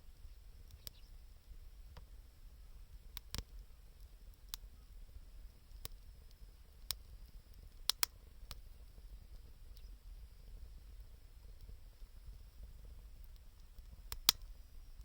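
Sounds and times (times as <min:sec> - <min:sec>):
wood fire crackling: 0:02.8 - 0:15.0.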